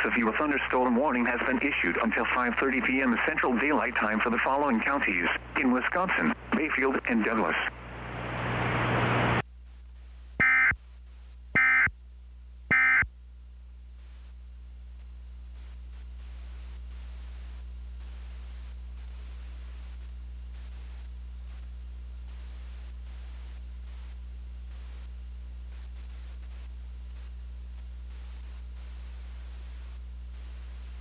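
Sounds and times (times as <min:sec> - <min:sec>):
radio static hiss: 0:00.0 - 0:11.9, 0:15.0 - 0:31.0.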